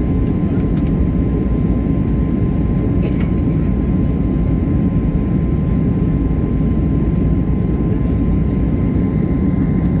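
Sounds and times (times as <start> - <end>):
faint steady whine: 0.0 - 10.0
jet engines droning: 0.0 - 10.0.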